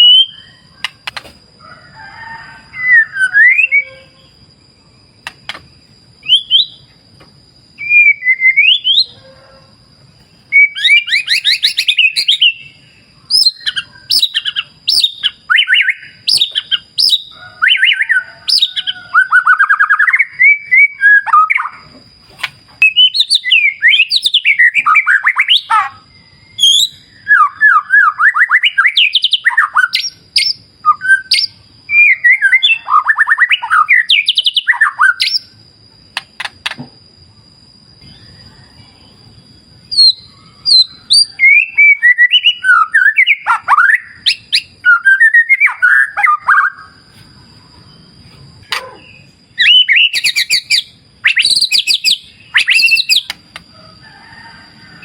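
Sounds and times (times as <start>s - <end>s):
songbird singing trills and whistles: 0.0s - 1.2s, 2.6s - 4.5s, 5.2s - 7.0s, 7.7s - 9.2s, 10.2s - 22.0s, 22.7s - 36.8s, 38.0s - 53.6s.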